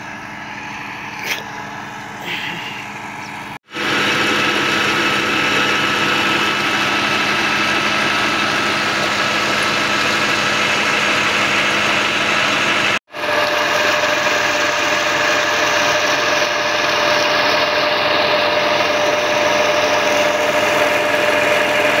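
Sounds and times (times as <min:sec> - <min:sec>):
tractor diesel engine running: 0:00.0 - 0:22.0
water gushing from pipe: 0:03.1 - 0:22.0.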